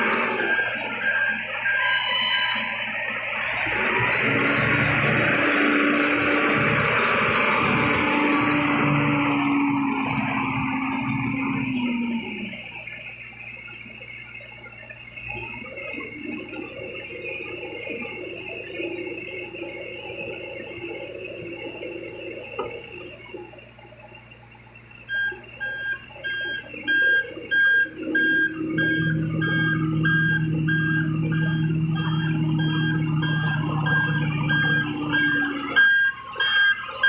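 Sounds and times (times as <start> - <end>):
machinery running: 0.0 - 37.0
truck reversing alarm beeping: 0.0 - 37.0.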